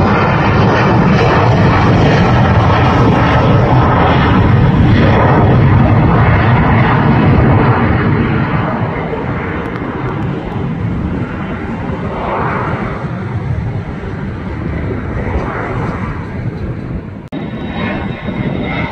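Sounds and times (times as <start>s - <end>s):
jet airliner rushing overhead: 0.0s - 18.9s.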